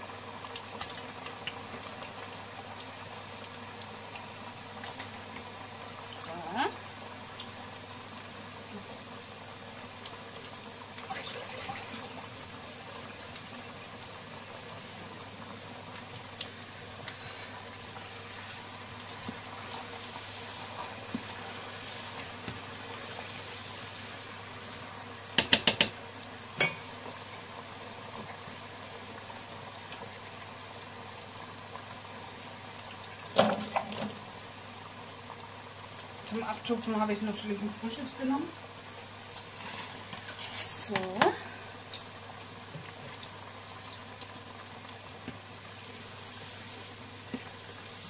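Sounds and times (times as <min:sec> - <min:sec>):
fries bubbling in hot oil: 0:00.0 - 0:48.0.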